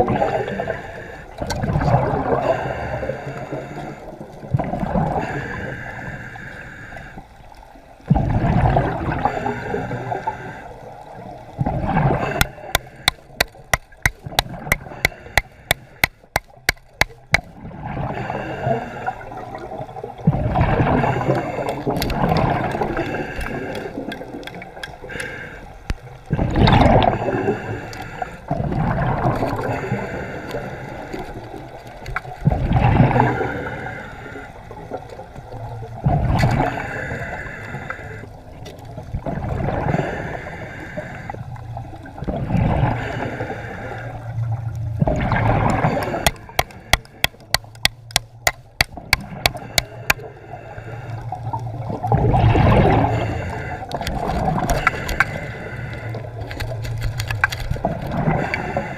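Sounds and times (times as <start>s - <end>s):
water sloshing and gurgling: 0.0s - 58.9s.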